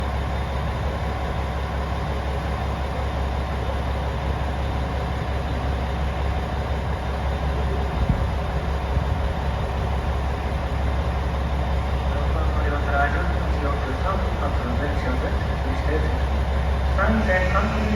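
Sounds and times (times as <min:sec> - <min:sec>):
railcar diesel engine droning: 0:00.0 - 0:17.9.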